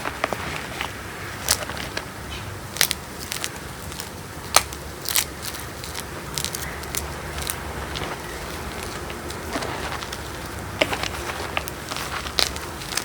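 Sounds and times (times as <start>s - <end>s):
chalk crunching between fingers: 0.0s - 13.0s.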